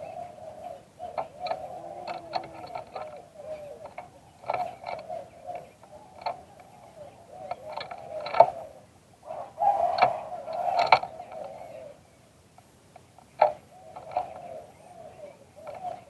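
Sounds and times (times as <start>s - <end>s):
dove cooing: 0.0s - 12.1s, 13.0s - 16.0s.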